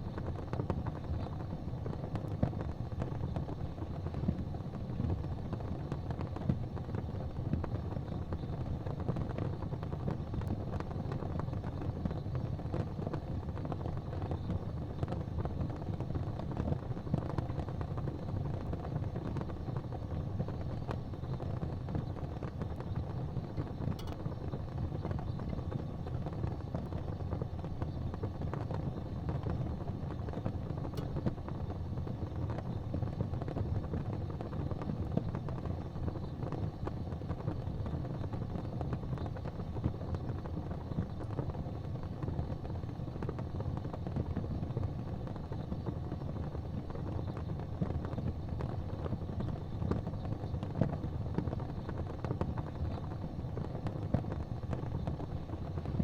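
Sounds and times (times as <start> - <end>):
wood fire burning: 0.0 - 56.0.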